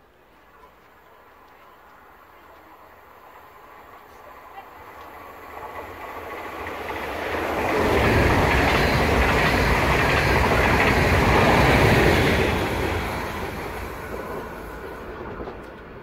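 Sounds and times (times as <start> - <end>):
train wheels rumbling on rails: 0.3 - 16.0.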